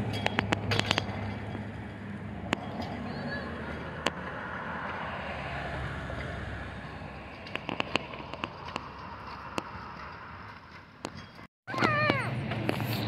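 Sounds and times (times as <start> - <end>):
steady outdoor rush: 0.0 - 13.0.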